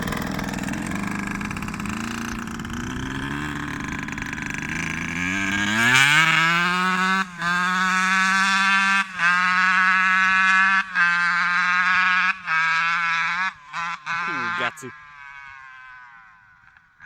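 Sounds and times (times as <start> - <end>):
two-stroke engine idling and revving: 0.0 - 17.0.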